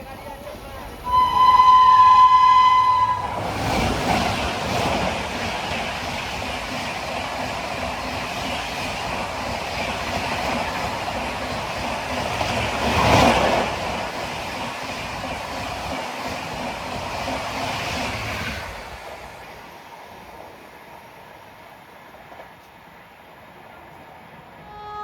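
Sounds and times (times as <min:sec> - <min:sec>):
express train passing: 0:00.0 - 0:25.0.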